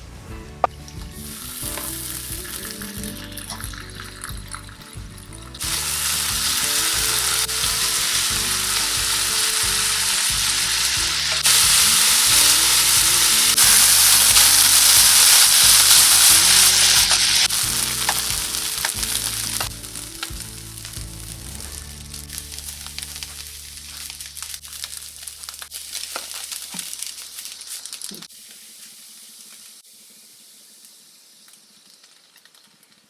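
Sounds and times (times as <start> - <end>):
rice sizzling in a frying pan: 1.2 - 4.9, 5.6 - 33.0.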